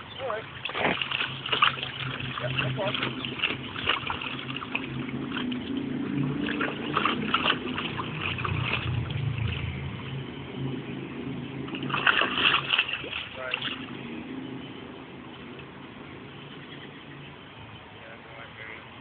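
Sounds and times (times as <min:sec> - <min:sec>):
water splashing in a plastic pool: 0:00.0 - 0:16.6
low steady rumble: 0:00.0 - 0:19.0.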